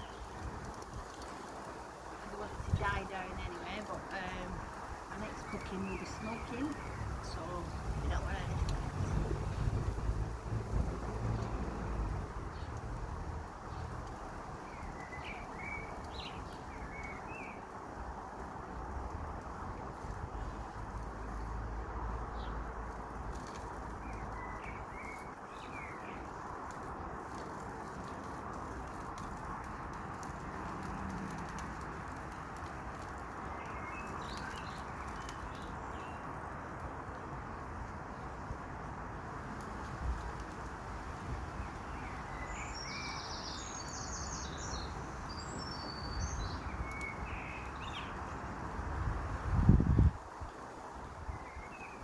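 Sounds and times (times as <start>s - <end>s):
outdoor background rush: 0.0s - 52.0s.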